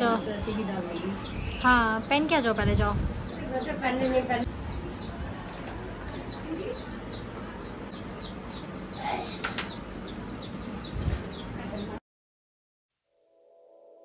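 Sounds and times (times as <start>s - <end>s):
small bird chirping: 0.1s - 12.0s.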